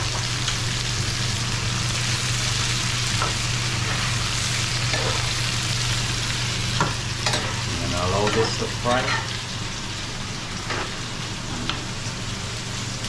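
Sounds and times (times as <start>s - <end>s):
vegetables sizzling in a skillet: 0.0s - 13.0s.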